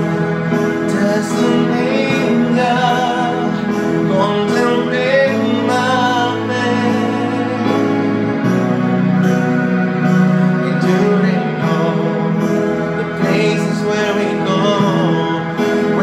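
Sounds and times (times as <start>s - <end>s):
man singing into a microphone: 0.0s - 8.7s, 10.0s - 16.0s
backing track chords: 0.0s - 16.0s.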